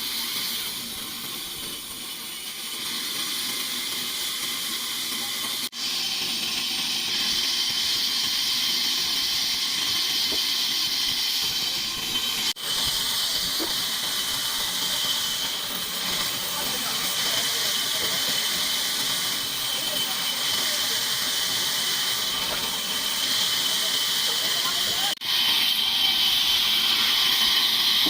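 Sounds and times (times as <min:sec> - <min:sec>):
saw cutting through wood: 0:00.0 - 0:28.0.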